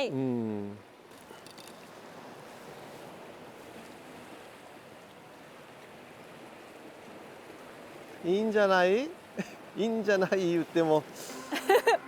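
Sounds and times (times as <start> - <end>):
sea waves: 0.0 - 12.0
wind: 0.0 - 12.0.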